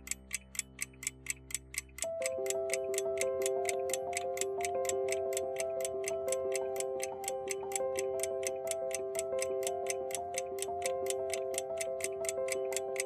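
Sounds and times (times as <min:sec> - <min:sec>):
background tune of held notes: 0:00.0 - 0:13.0
clock ticking: 0:00.0 - 0:13.0.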